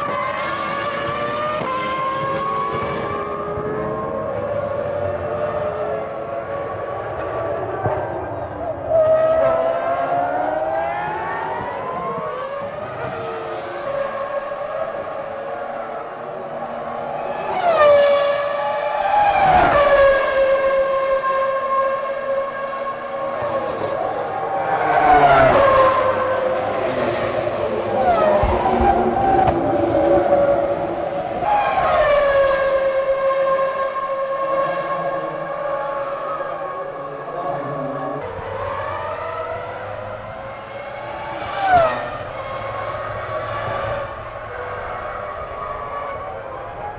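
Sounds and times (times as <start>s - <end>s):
racing car engines at high revs: 0.0s - 46.9s.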